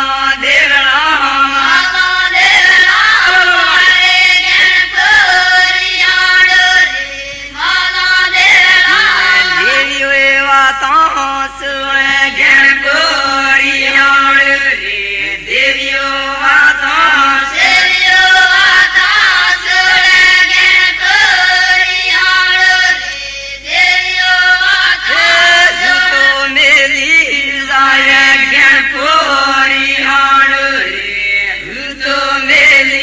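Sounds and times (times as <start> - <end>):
people chanting a devotional song: 0.0 - 33.0.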